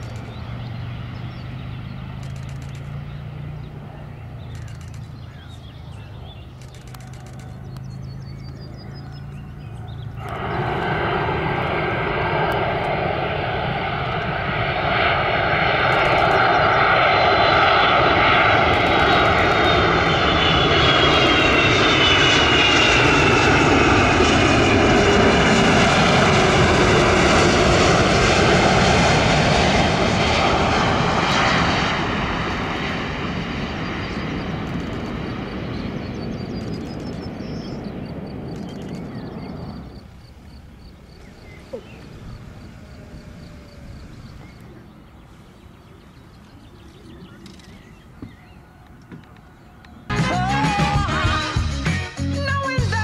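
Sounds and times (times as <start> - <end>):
high engine whine: 0.0 - 53.0
jet airliner passing overhead: 0.0 - 53.0.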